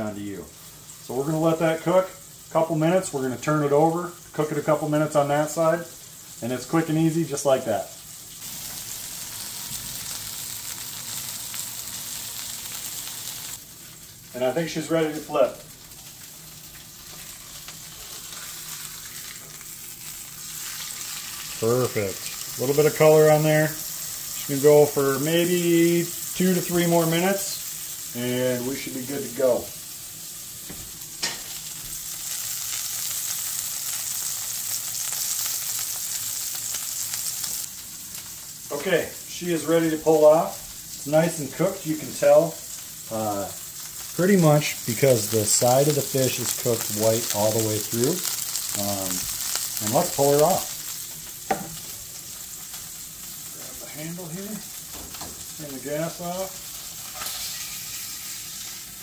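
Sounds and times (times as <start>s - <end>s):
fish sizzling in a skillet: 0.5s - 59.0s.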